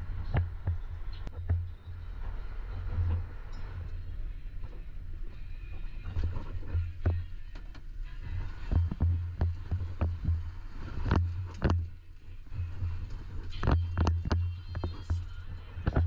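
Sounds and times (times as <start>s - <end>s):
vehicle engine pulsing: 0.0s - 16.0s.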